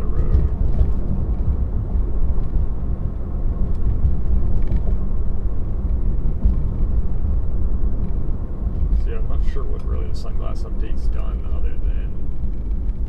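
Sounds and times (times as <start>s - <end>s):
road and tyre rumble in car: 0.0s - 13.0s.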